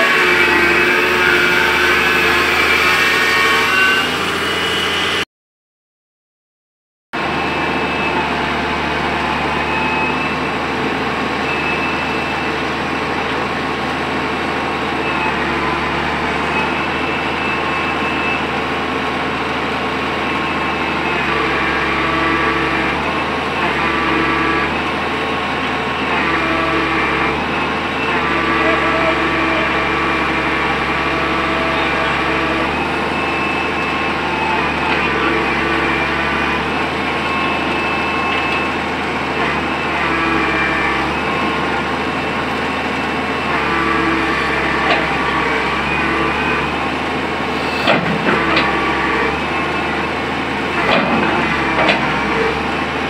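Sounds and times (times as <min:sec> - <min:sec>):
excavator diesel engine running: 0:00.0 - 0:05.2, 0:07.2 - 0:53.0.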